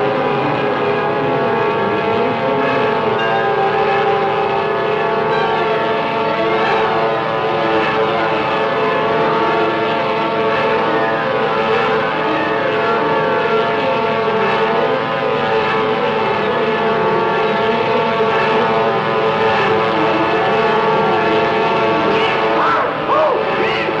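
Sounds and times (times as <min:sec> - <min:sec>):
diving warplane screaming wail: 0:00.0 - 0:24.0.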